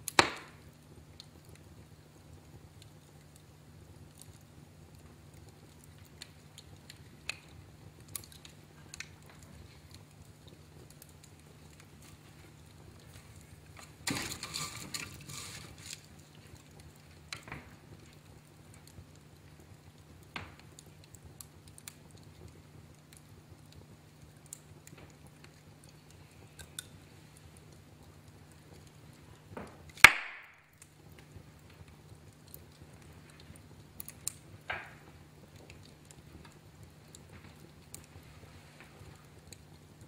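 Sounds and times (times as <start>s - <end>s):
low steady hum: 0.0s - 40.0s
wood fire crackling: 0.0s - 40.0s.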